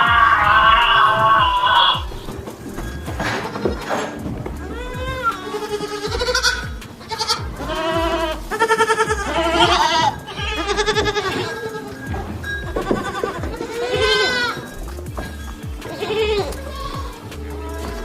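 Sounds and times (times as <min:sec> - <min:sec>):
background music with steady beat: 0:00.0 - 0:18.0
goats bleating: 0:00.0 - 0:18.0.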